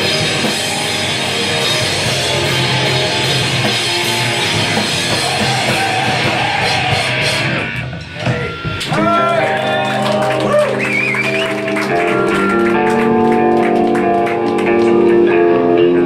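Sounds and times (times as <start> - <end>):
bass guitar: 0.0 - 16.0
distorted electric guitars: 0.0 - 16.0
drum kit: 0.0 - 16.0.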